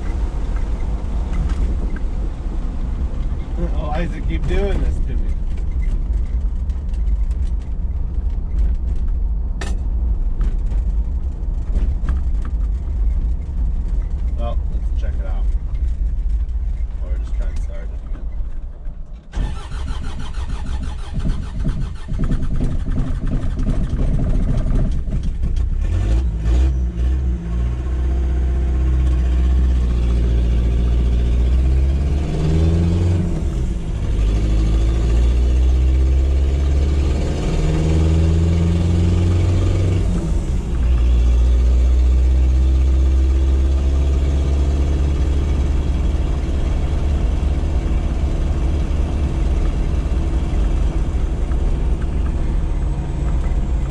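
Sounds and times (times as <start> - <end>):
diesel engine accelerating: 0.0 - 9.7, 10.4 - 53.9.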